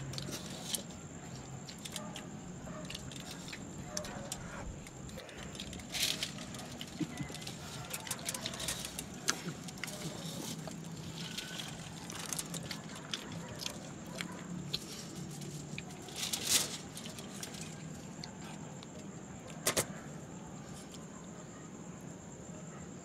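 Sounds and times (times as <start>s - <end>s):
food packaging rustling: 0.0s - 18.6s.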